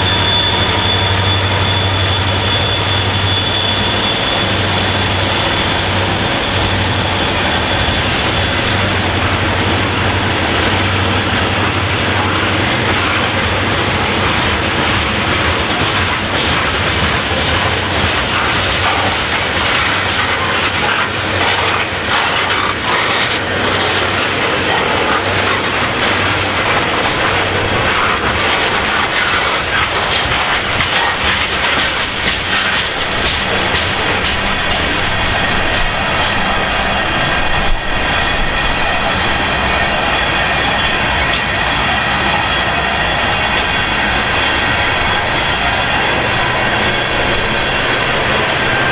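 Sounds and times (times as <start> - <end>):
freight train rumble: 0.0 - 48.9
train wheels clicking over rail joints: 0.0 - 48.9.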